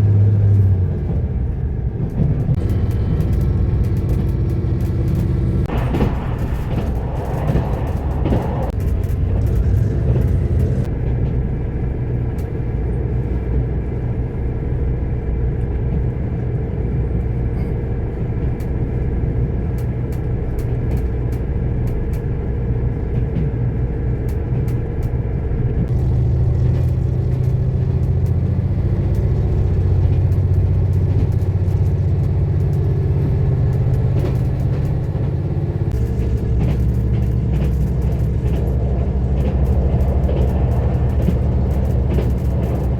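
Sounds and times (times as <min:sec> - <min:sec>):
train engine and wheel rumble: 0:00.0 - 0:42.9.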